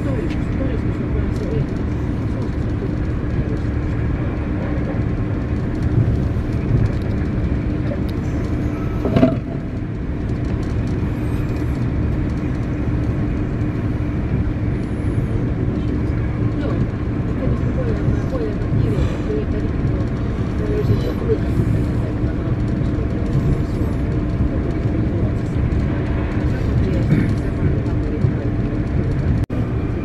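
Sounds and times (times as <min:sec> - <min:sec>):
train rumbling inside carriage: 0:00.0 - 0:30.0.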